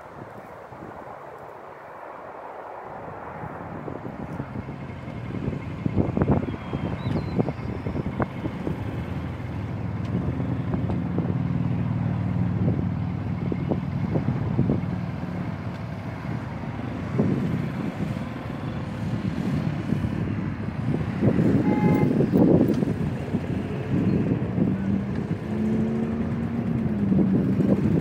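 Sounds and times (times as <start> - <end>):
wind buffeting microphone: 0.0 - 28.0
small motorcycles engine drone: 3.0 - 28.0.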